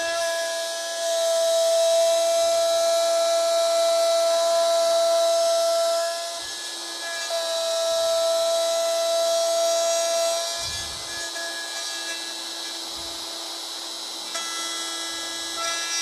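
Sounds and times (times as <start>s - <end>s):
router whining: 0.0s - 16.0s.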